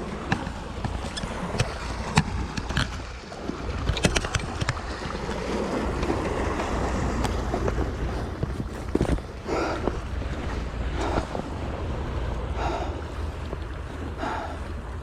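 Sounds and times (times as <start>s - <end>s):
waves washing on shore: 0.0s - 15.0s
wind buffeting microphone: 0.0s - 15.0s.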